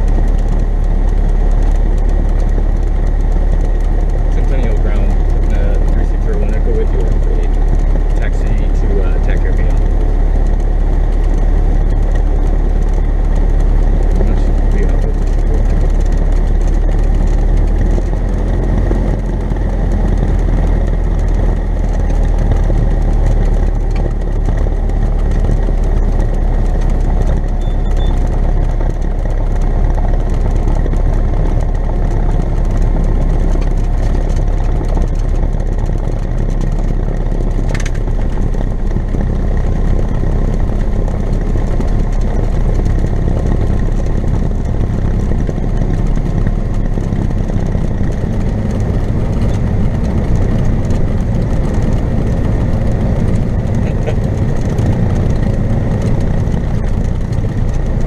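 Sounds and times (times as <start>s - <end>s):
aircraft engine and propeller: 0.0s - 58.0s.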